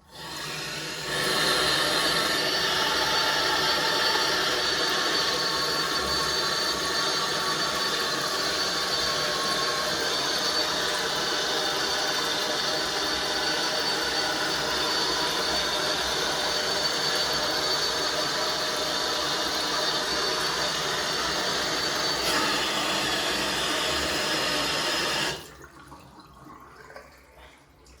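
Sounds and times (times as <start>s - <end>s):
tap water rushing: 0.0s - 28.0s.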